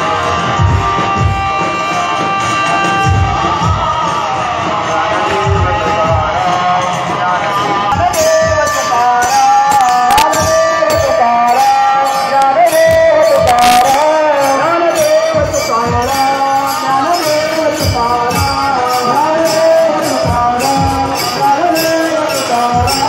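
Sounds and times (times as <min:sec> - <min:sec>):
devotional chant over loudspeakers: 0:00.0 - 0:23.0
hand cymbals clashing: 0:00.2 - 0:23.0.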